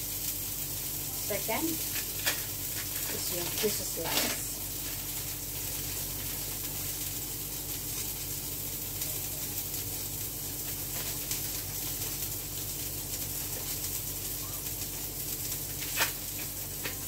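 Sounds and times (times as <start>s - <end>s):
low electrical hum: 0.0s - 17.0s
steady hiss: 0.0s - 17.0s.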